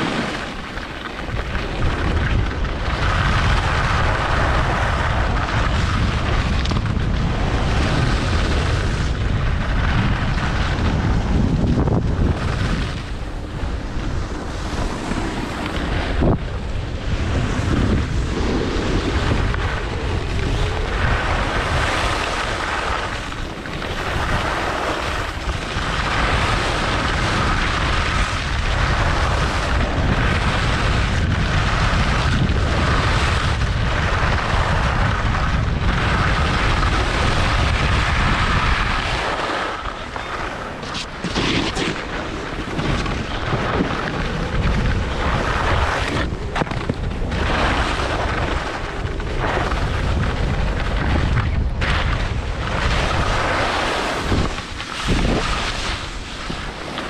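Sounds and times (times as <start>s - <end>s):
skis sliding over snow: 0.0s - 57.0s
wind buffeting microphone: 0.0s - 57.0s.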